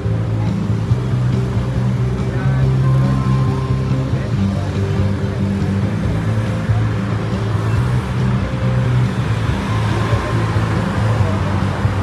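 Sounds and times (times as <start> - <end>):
music with bass line: 0.0 - 12.0
passing cars: 0.0 - 12.0.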